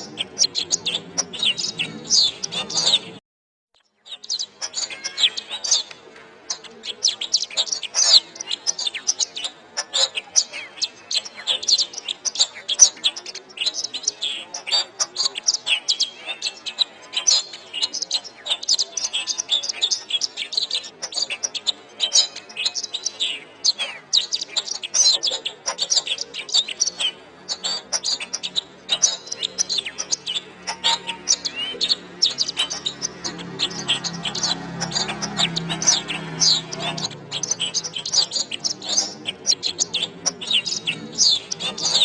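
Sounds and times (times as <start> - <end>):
canary singing chirps and trills: 0.0 - 3.2, 3.8 - 42.0.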